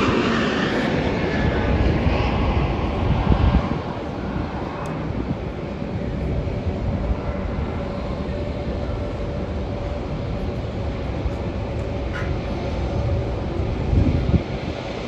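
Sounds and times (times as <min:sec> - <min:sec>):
faint jet whine: 0:00.0 - 0:15.0
jet engines rumbling: 0:00.0 - 0:15.0.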